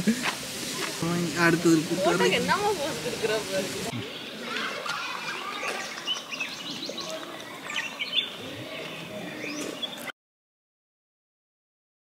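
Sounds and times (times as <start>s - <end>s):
birds chirping: 0.0s - 10.1s.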